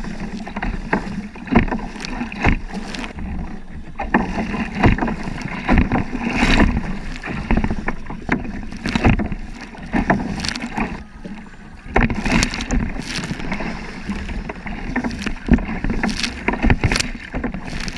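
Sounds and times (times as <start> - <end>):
water splashing against kayak: 0.0 - 17.9.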